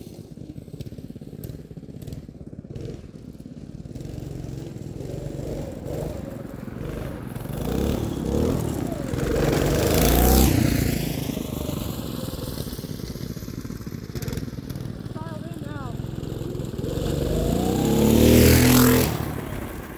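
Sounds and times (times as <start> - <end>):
go-kart engines driving by: 0.0 - 19.9.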